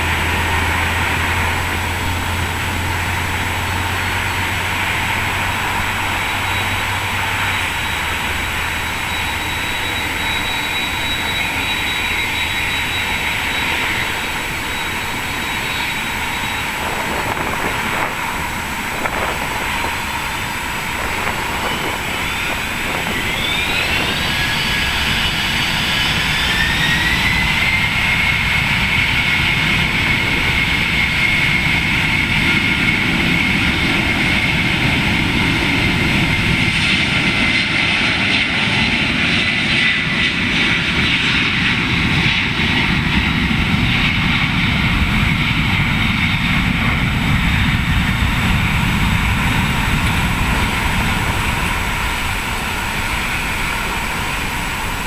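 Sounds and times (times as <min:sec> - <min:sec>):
jet engine roar: 0:00.0 - 0:55.0
jet engines whining: 0:00.0 - 0:55.0.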